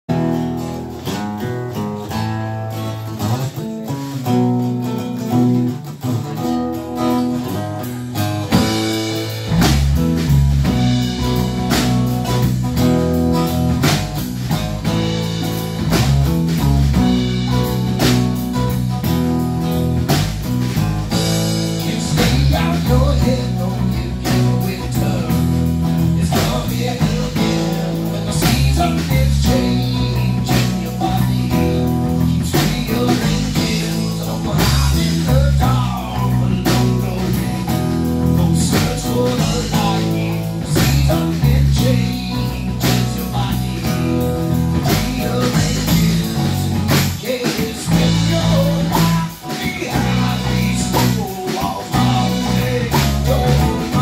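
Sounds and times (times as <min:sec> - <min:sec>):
bass guitar: 0:00.0 - 0:54.0
drum kit: 0:00.0 - 0:54.0
acoustic guitar picking: 0:00.1 - 0:54.0.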